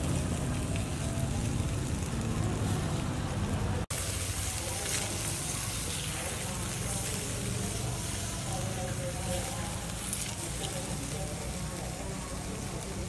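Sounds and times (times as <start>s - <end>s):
fish sizzling on charcoal fire: 0.0s - 13.0s.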